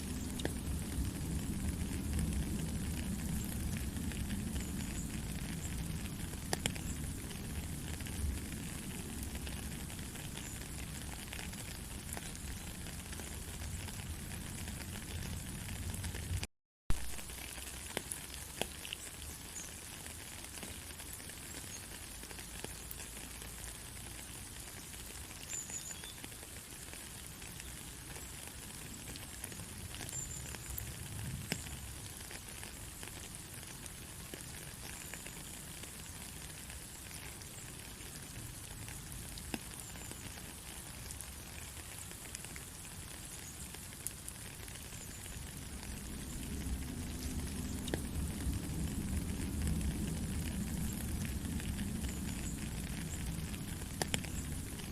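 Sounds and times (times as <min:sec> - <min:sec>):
raindrops ticking: 0:00.0 - 0:54.9
steady rain hiss: 0:00.0 - 0:54.9.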